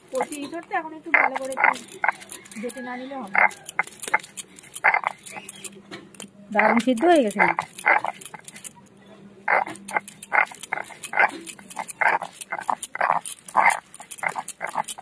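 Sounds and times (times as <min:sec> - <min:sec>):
stone roller scraping on stone: 0:00.0 - 0:05.8, 0:06.6 - 0:08.8, 0:09.5 - 0:15.0.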